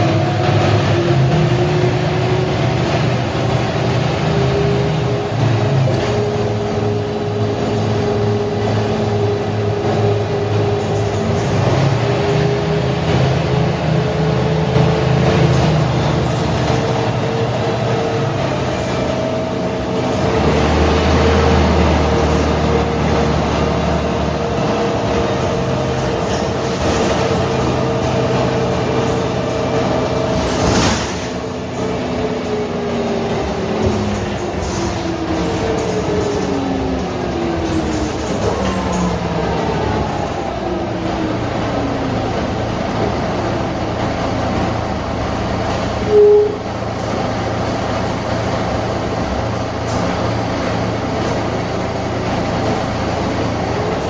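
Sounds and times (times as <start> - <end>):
bus diesel engine droning: 0.0 - 54.0
engine whine: 0.0 - 54.0
road noise: 0.0 - 54.0.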